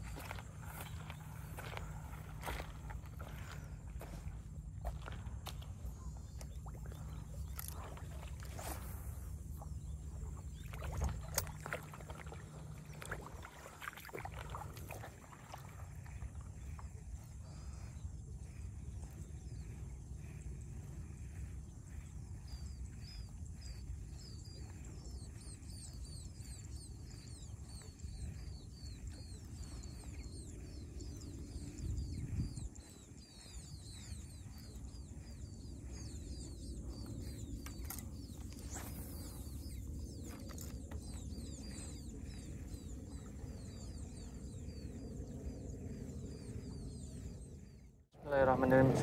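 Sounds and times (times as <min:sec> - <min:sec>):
small birds chirping: 0:00.0 - 0:49.0
wind rumble on microphone: 0:00.0 - 0:49.0.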